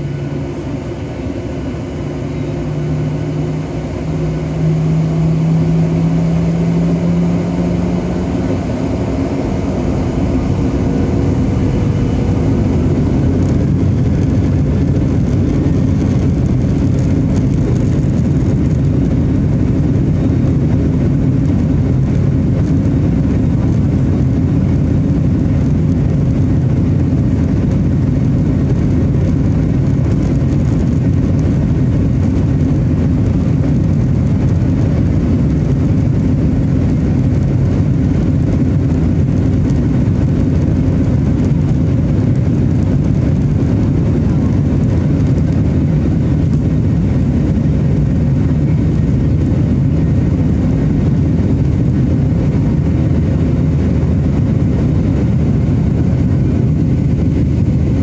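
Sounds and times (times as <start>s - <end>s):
jet engines rumbling in cabin: 0.0s - 58.0s
low steady hum: 0.0s - 58.0s.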